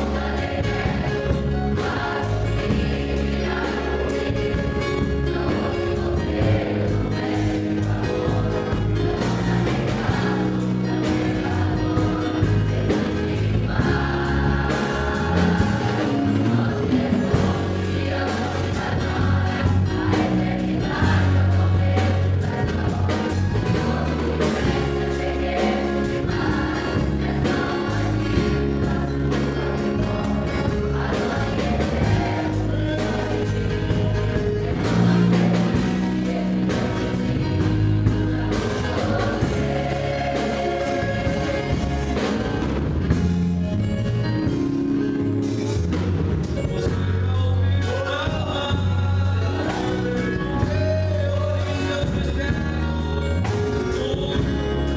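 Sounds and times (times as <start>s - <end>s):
choir singing a hymn: 0.0s - 43.8s, 46.6s - 54.9s
instrumental accompaniment: 0.0s - 54.9s
steady bass line: 0.0s - 54.9s.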